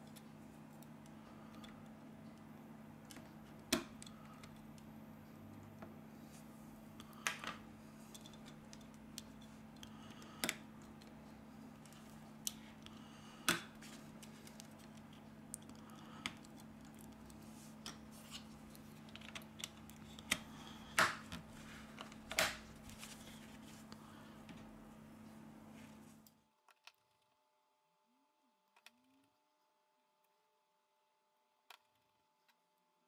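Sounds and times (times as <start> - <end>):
faint low hum: 0.0 - 26.6.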